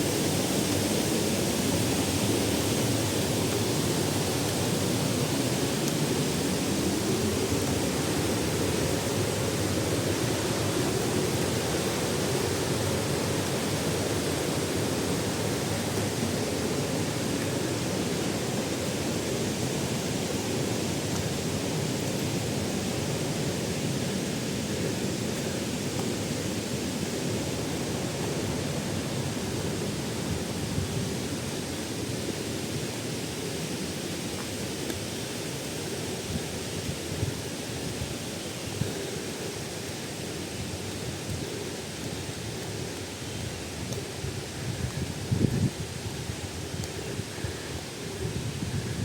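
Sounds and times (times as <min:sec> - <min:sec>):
waterfall rushing and splashing: 0:00.0 - 0:49.0.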